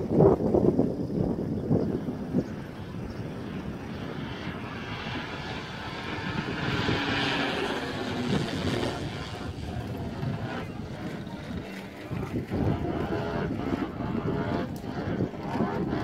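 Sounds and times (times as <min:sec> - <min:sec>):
model plane engine droning: 0:00.0 - 0:16.0.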